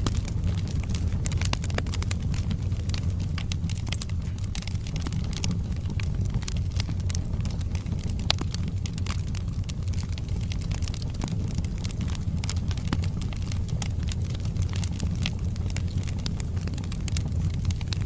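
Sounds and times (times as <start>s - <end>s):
logs crackling and popping: 0.0s - 18.0s
low rumble of flames: 0.0s - 18.0s.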